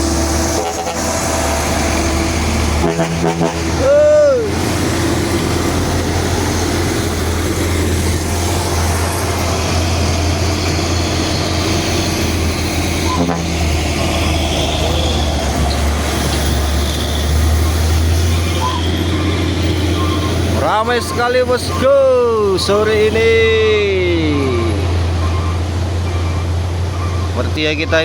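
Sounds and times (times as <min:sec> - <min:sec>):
diesel truck engine drone: 0:00.0 - 0:28.0
passing traffic: 0:00.0 - 0:28.0.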